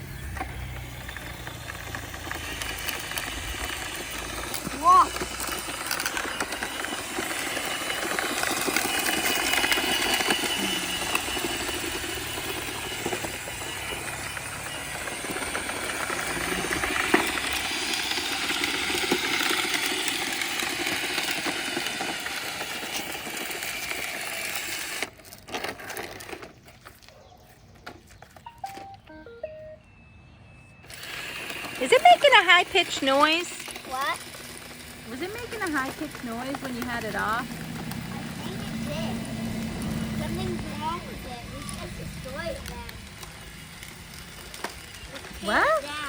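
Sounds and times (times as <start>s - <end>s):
robot vacuum whirring: 0.0s - 27.0s, 30.8s - 46.0s.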